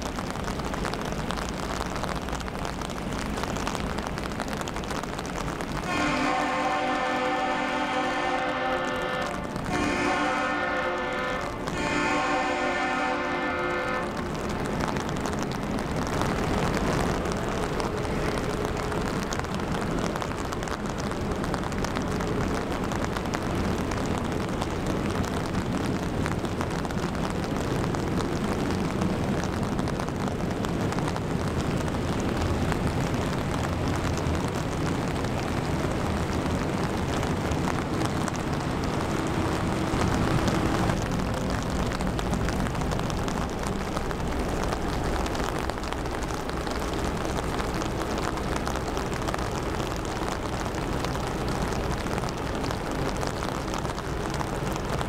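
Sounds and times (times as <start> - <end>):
rain hitting an umbrella: 0.0 - 55.0
ship engines rumbling: 0.0 - 55.0.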